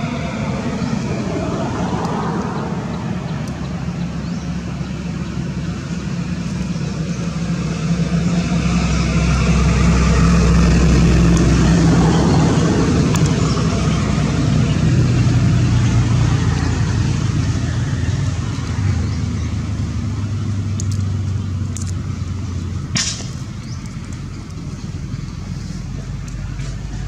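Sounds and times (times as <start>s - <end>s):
constant noisy rush: 0.0s - 27.0s
vehicle engine running: 0.0s - 27.0s.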